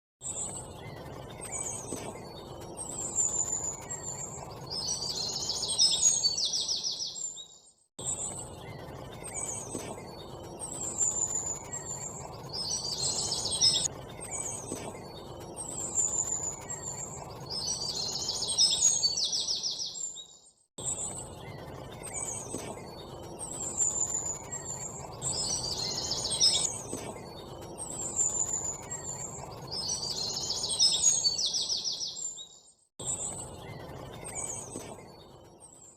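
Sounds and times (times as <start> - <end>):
birds chirping and trilling: 0.2 - 35.9.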